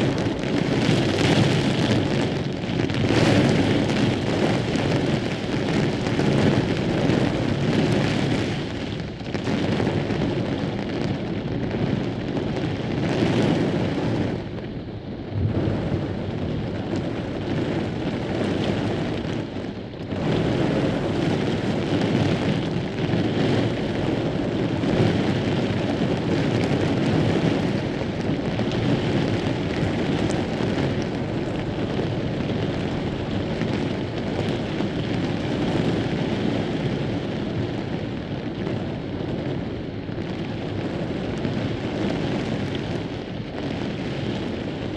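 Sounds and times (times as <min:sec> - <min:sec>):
gusting wind: 0:00.0 - 0:44.9
heavy rain: 0:00.0 - 0:44.9.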